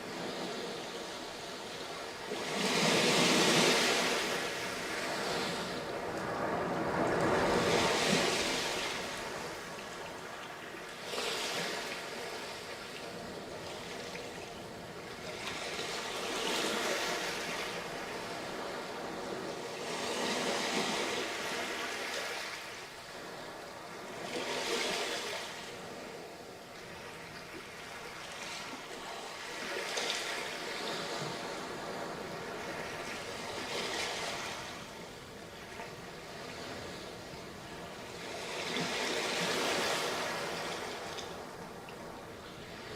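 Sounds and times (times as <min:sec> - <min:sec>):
sea waves breaking on beach: 0:00.0 - 0:42.9.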